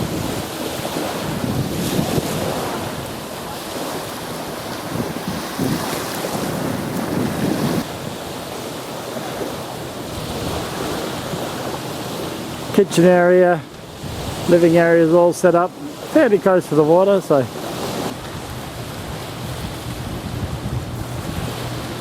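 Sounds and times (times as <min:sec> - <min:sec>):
strong wind buffeting microphone: 0:00.0 - 0:15.0, 0:17.5 - 0:22.0
waves washing on shore: 0:00.0 - 0:22.0.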